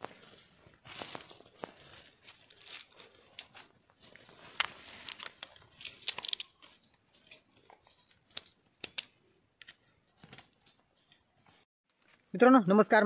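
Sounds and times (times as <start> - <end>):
dry leaves and twigs crunching: 0.0 - 11.2.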